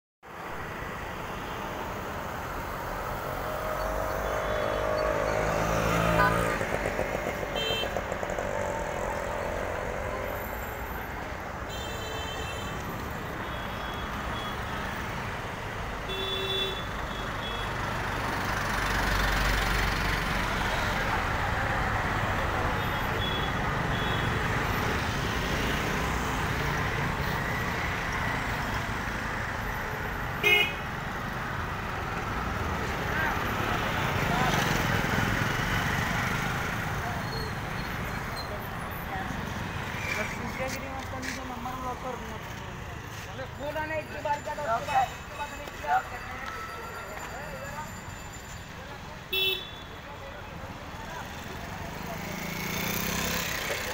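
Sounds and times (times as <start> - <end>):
vehicles passing: 0.2 - 53.9.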